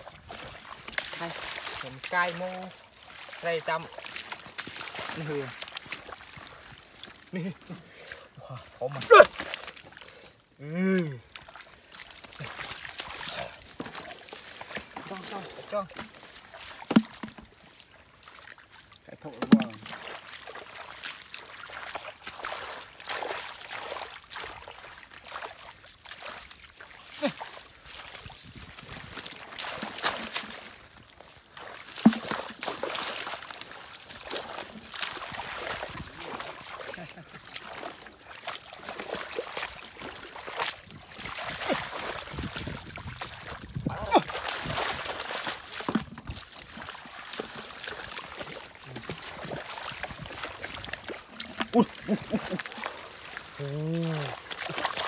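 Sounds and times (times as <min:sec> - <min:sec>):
hands squelching through wet mud: 0:00.0 - 0:55.0
water splashing: 0:00.0 - 0:55.0.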